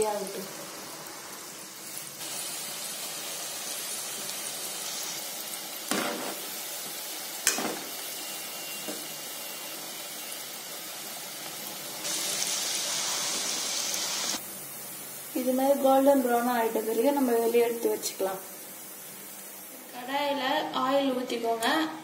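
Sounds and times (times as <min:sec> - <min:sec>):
deep-frying in hot oil sizzle: 0:00.0 - 0:21.8.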